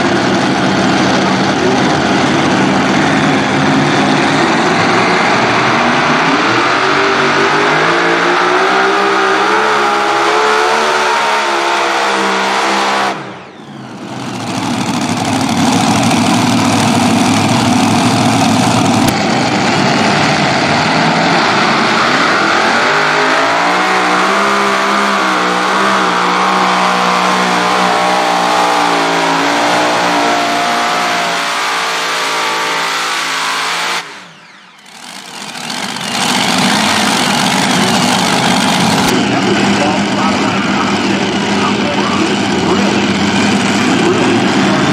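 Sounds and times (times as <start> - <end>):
tractor engines running hard: 0.0 - 44.9.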